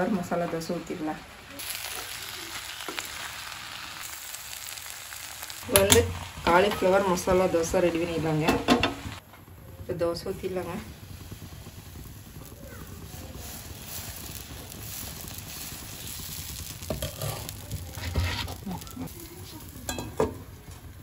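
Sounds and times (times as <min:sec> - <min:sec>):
batter sizzling on a pan: 0:00.0 - 0:21.0.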